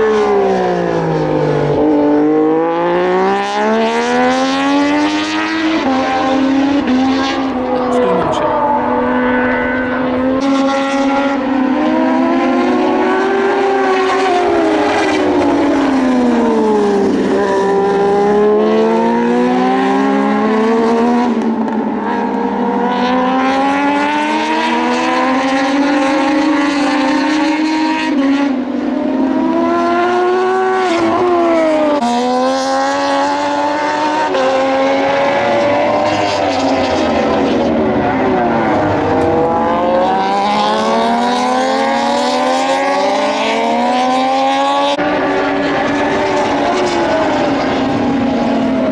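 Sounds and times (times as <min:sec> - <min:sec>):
racing motorcycles revving: 0:00.0 - 0:48.9.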